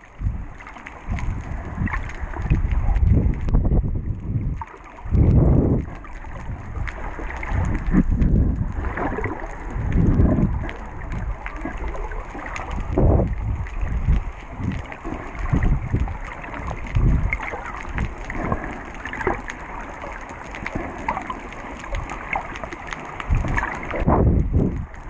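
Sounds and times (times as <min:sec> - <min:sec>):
muffled underwater water rushing: 0:00.0 - 0:25.0.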